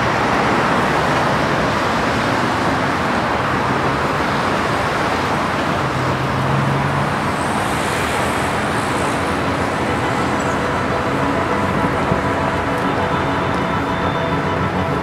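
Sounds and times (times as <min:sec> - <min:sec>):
low engine hum: 0:00.0 - 0:15.0
road traffic passing: 0:00.0 - 0:15.0.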